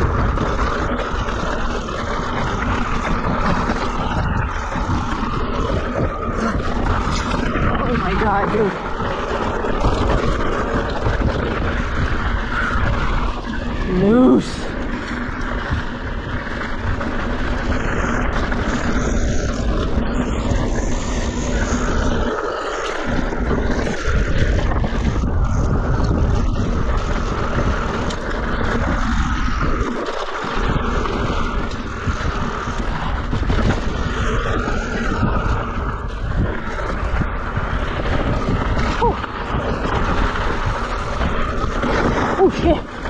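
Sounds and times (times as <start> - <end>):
bike rattling: 0.0 - 43.0
tyres crunching over gravel: 0.0 - 43.0
wind buffeting microphone: 0.0 - 43.0.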